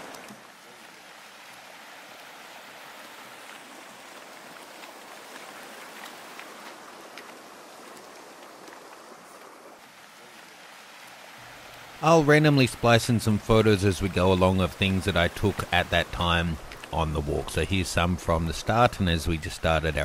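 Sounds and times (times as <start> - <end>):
outdoor rushing hiss: 0.0 - 20.0.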